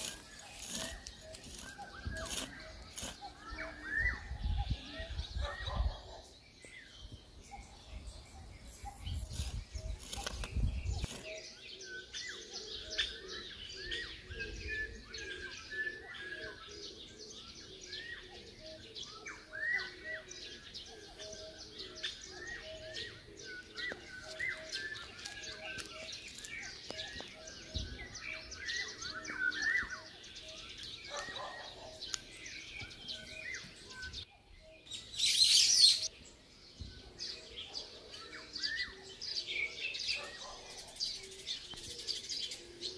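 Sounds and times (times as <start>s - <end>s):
birds singing and chirping: 0.0s - 42.9s.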